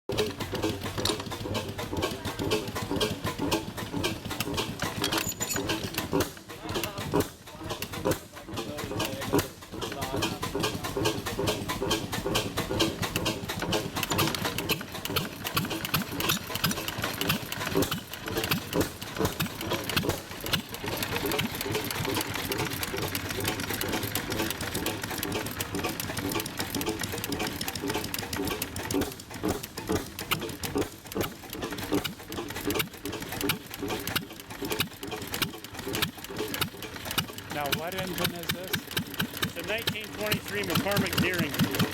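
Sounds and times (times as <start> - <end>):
stationary gas engine clicking: 0.1 - 41.9.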